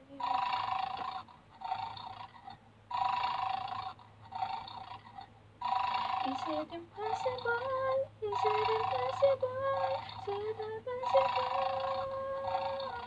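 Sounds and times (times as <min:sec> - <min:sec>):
toy snoring sound: 0:00.1 - 0:13.0.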